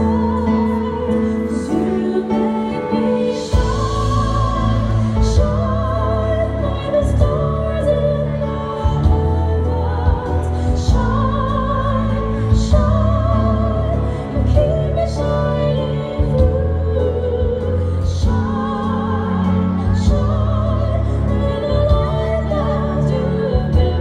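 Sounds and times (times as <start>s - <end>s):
backing track with bass line: 0.0s - 24.0s.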